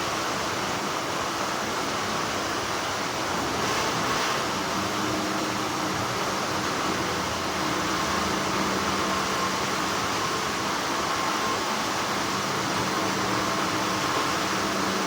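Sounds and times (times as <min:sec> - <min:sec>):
high machine whine: 0:00.0 - 0:15.0.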